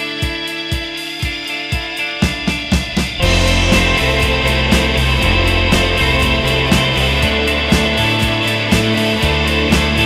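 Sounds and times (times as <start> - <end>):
indie pop band instrumental: 0.0 - 10.0.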